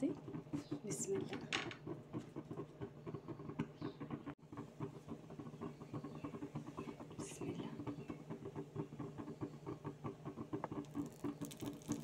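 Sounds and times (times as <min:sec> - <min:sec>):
roti crackling on hot pan: 0:00.0 - 0:12.0.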